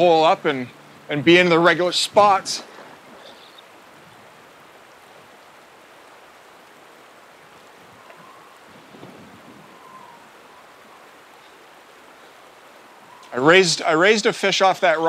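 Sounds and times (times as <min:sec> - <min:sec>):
fast-flowing river rushing: 0:01.8 - 0:15.0.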